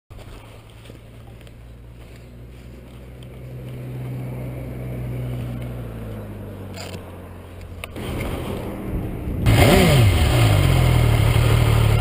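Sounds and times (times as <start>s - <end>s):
motorcycle engine idling: 0.7s - 12.0s.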